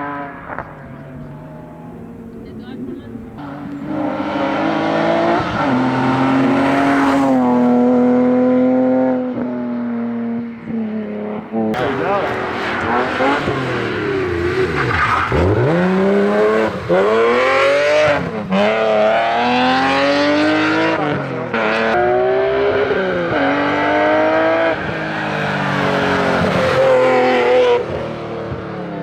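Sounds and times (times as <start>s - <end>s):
race car engine accelerating: 0.0s - 28.7s.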